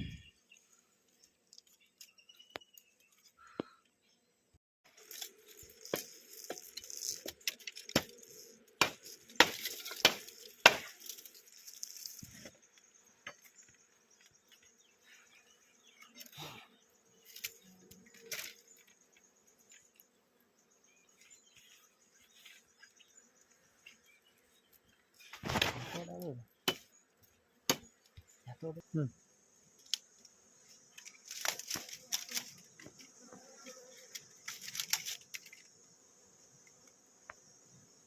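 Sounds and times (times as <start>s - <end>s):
insects trilling: 4.9s - 38.0s.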